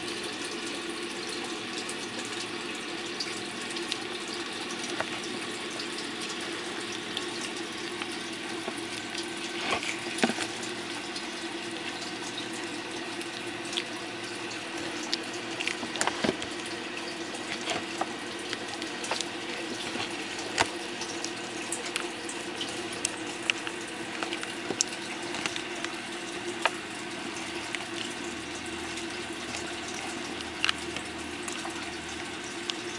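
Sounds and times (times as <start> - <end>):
running water: 0.0 - 32.9.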